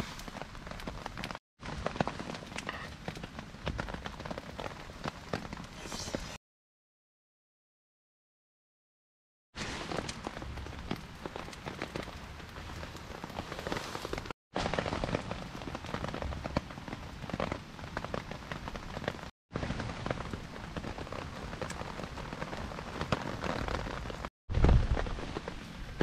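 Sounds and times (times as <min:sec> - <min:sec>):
rain pattering on a tarp: 0:00.0 - 0:06.1, 0:09.6 - 0:26.0.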